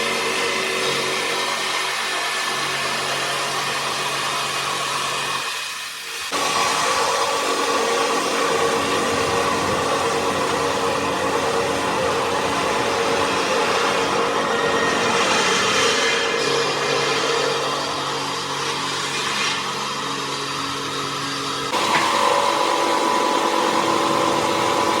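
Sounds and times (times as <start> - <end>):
heavy machinery running: 0.0 - 25.0.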